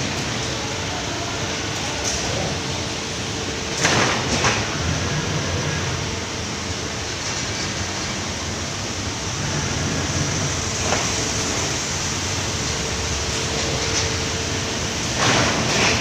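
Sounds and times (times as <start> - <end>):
printing machine running: 0.0 - 16.0.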